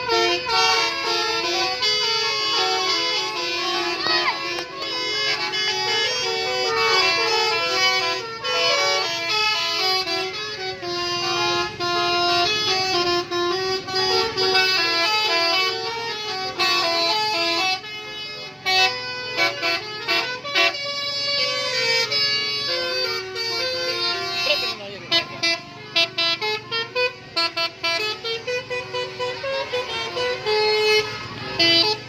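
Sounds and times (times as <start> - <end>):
bus multi-tone horn tune: 0.0 - 32.0.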